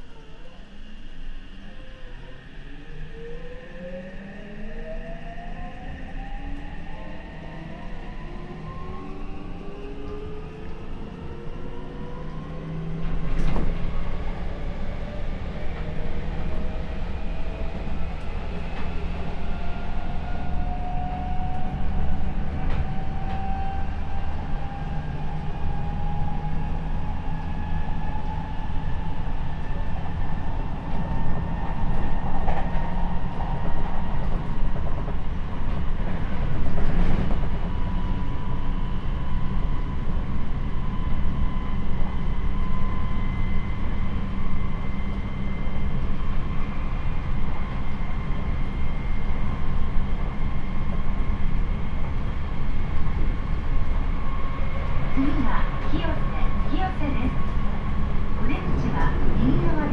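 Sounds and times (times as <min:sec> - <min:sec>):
wheels rumbling on rails: 0:06.1 - 0:59.9.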